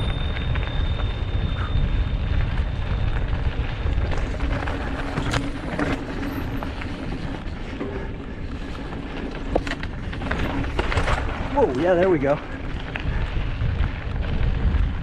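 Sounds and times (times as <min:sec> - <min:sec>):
bike rattling: 0:00.0 - 0:15.0
bike tyres crunching on dirt: 0:00.0 - 0:15.0
wind rumble on microphone: 0:00.0 - 0:15.0.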